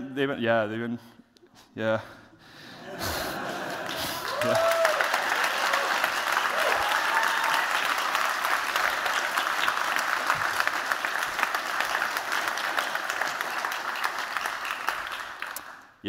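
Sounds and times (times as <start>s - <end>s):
audience applauding: 3.1s - 16.0s.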